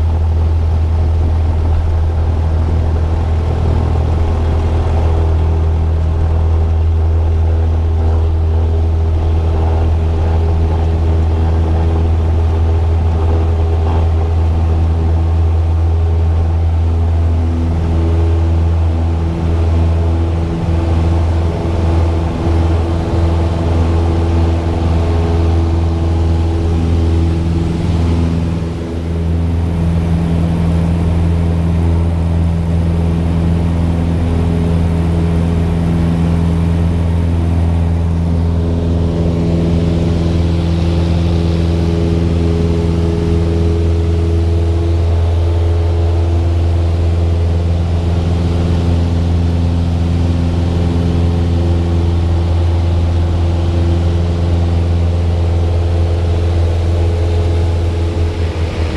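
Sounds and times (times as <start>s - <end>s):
aircraft engine drone: 0.0s - 58.9s.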